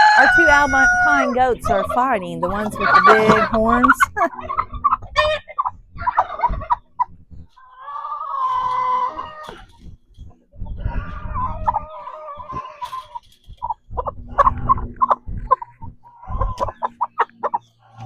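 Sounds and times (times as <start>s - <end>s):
long drawn-out hen calls: 0.0s - 2.0s, 2.7s - 9.8s, 10.6s - 18.0s
chickens clucking: 0.0s - 9.8s, 10.6s - 18.0s.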